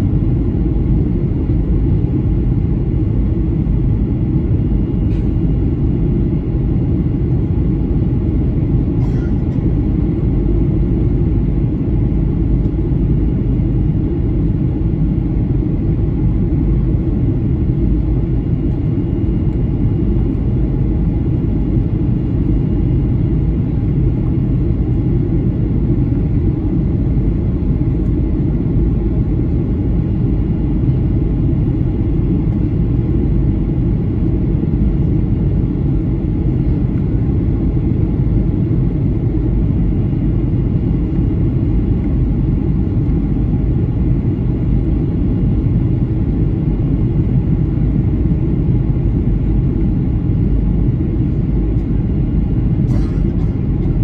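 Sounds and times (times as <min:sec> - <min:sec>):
low engine and airflow rumble: 0:00.0 - 0:54.0.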